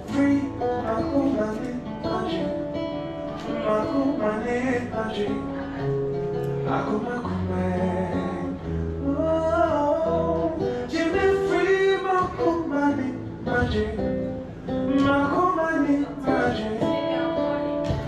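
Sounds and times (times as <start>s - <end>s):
guitar playing chords: 0.0s - 18.0s.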